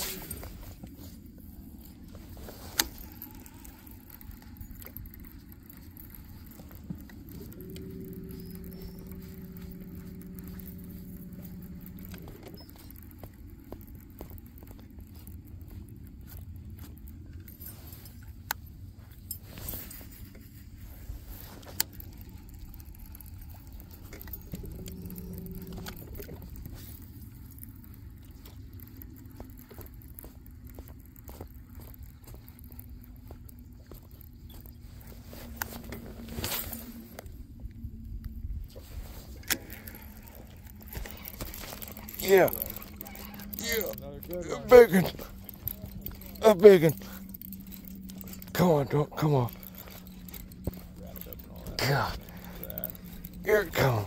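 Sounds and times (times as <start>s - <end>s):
clicks and knocks of gear: 0.0s - 54.0s
low steady rumble: 0.0s - 54.0s
motor hum: 0.0s - 54.0s.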